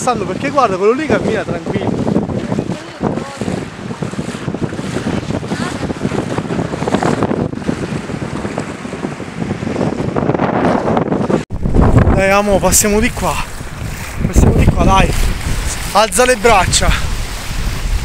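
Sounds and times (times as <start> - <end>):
sea waves rushing: 0.0 - 18.0
wind buffeting microphone: 0.0 - 18.0.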